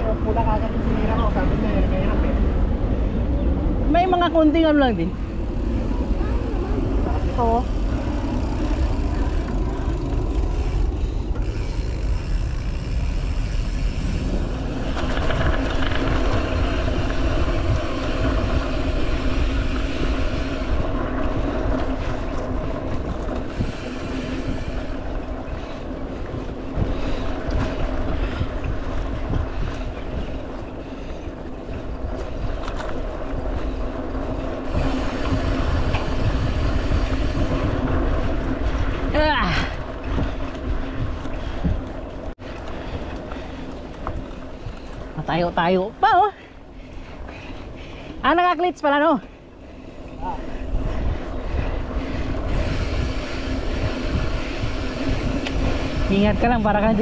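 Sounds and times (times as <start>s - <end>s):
bike tyres rolling on dirt: 0.0s - 57.0s
wind buffeting microphone: 0.0s - 57.0s.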